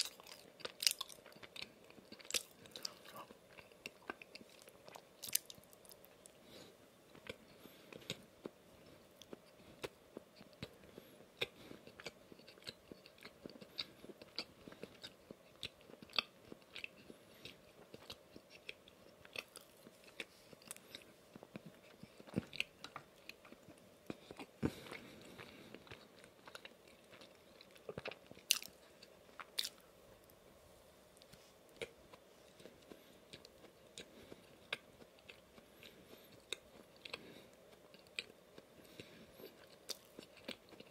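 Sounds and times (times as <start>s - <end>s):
chewing crunchy donut: 0.0s - 29.9s, 31.7s - 40.9s.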